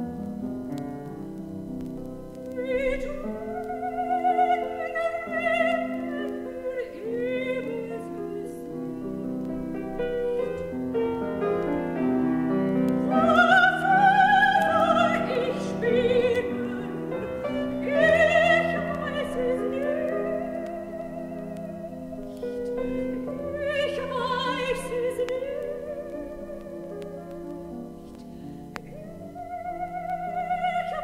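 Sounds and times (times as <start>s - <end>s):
piano accompaniment: 0.0s - 31.0s
soprano singing: 1.7s - 31.0s.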